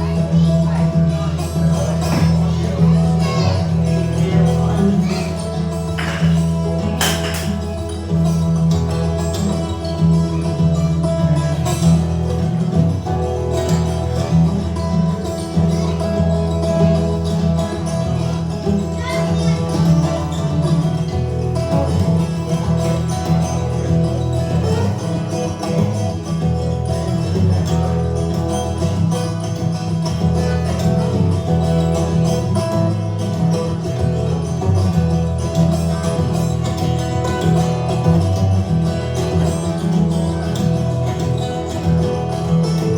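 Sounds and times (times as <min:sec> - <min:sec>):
low bass notes: 0:00.0 - 0:42.9
strummed and plucked guitar: 0:00.0 - 0:42.9.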